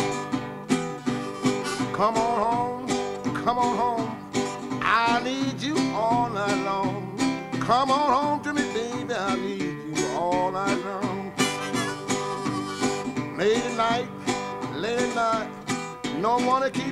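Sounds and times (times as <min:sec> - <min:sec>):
blues guitar playing: 0:00.0 - 0:16.9.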